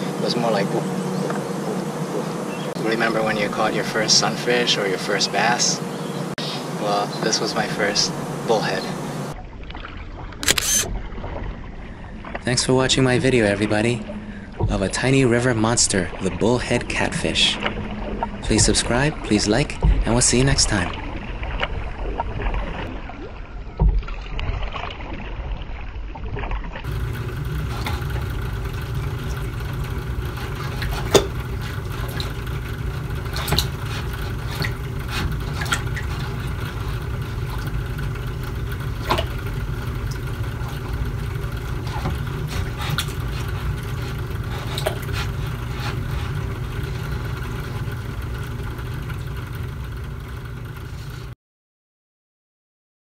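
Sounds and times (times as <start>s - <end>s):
electrical hum: 0.0s - 24.6s, 26.8s - 51.4s
paddle strokes splashing water: 7.2s - 51.3s.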